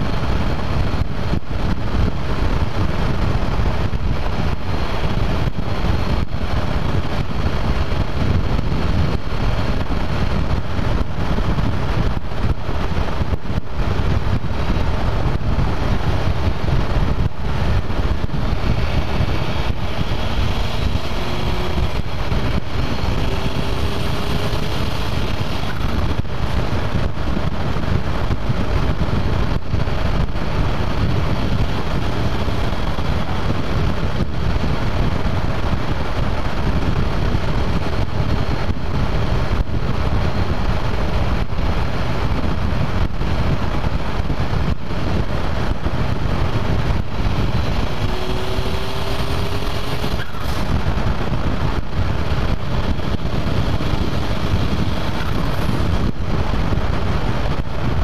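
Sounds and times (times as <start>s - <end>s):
car engine and exhaust: 0.0s - 58.0s
wind and road noise: 0.0s - 58.0s.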